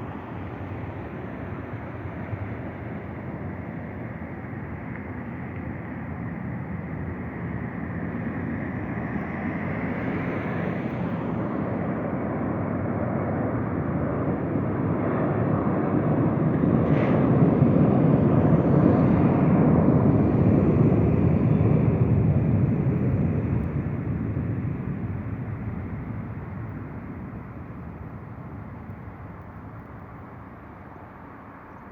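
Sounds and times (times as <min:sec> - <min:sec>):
jet engines rushing: 0:00.0 - 0:31.9.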